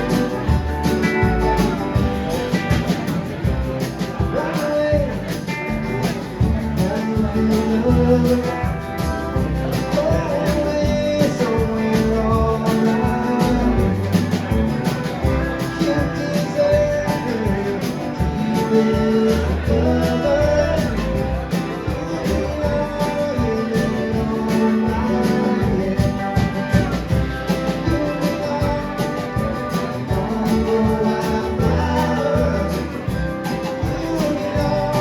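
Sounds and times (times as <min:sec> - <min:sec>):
bass guitar: 0:00.0 - 0:35.0
electric guitar: 0:00.0 - 0:35.0
person singing: 0:00.0 - 0:35.0
steady drum beat: 0:00.0 - 0:35.0.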